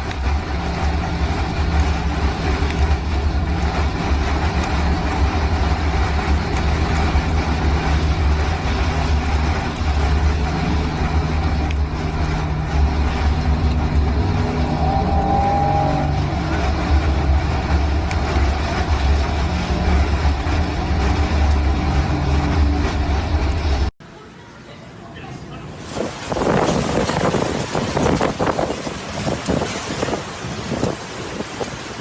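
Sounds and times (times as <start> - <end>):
storm wind buffeting microphone: 0.0 - 23.9, 25.7 - 32.0.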